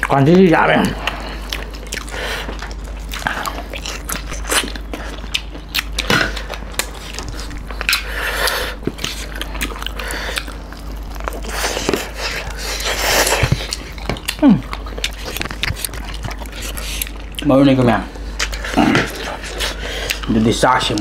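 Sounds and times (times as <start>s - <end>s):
wet chewing and mouth clicks: 0.0s - 21.0s.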